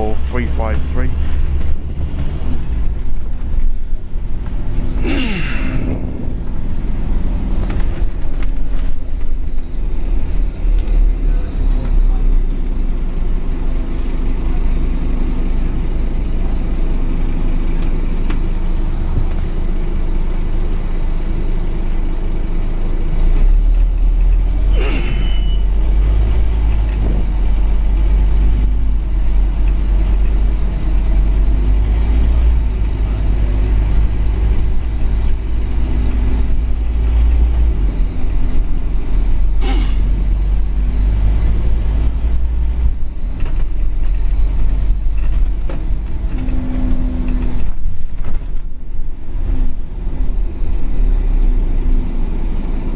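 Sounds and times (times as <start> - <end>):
bus diesel engine drone: 0.0 - 52.9.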